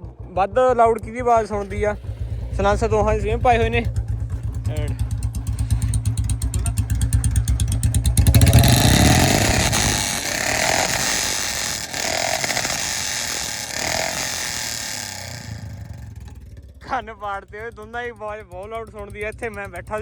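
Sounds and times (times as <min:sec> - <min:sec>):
motorcycle engine thumping and revving: 0:00.0 - 0:20.0.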